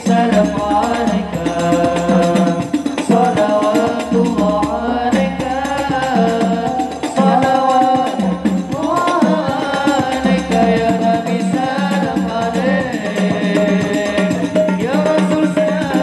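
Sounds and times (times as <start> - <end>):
hand percussion: 0.0 - 16.0
sung melody: 0.0 - 16.0.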